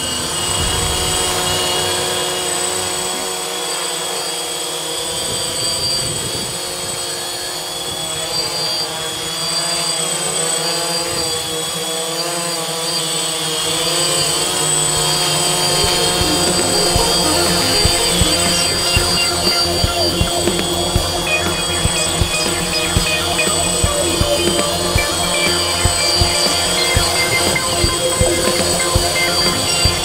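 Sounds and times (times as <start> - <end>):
drone propellers buzzing: 0.0 - 30.0.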